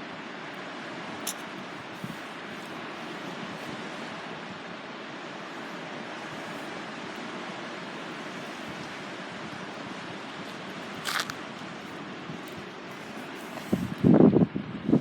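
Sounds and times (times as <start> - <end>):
sea surf rushing on shore: 0.0 - 15.0.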